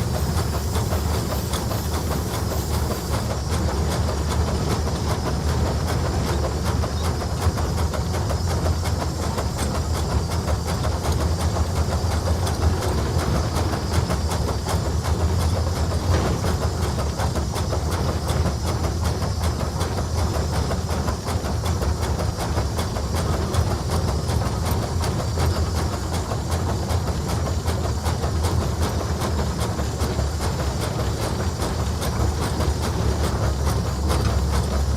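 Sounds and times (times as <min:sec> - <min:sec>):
steam hissing: 0:00.0 - 0:05.3, 0:08.1 - 0:34.9
steam engine rumble: 0:00.0 - 0:34.9.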